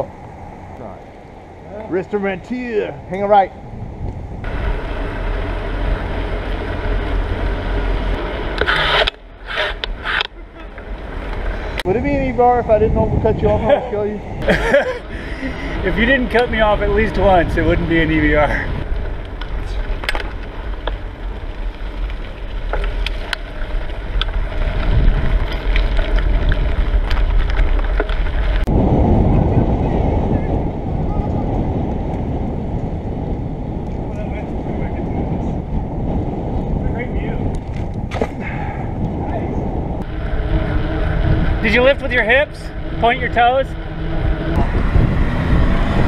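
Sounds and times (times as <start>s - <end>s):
road noise: 0.0s - 46.0s
wind buffeting microphone: 0.0s - 46.0s.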